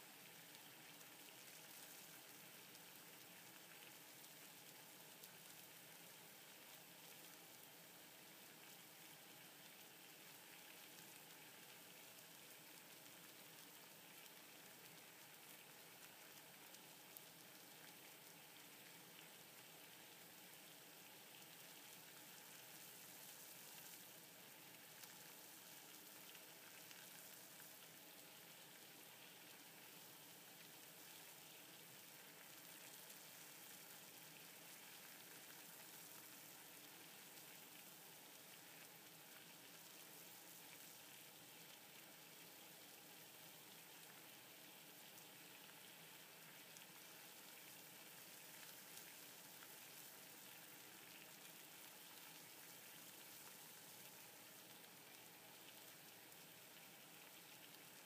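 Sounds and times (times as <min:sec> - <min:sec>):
water boiling in a pot: 0:00.0 - 0:58.0.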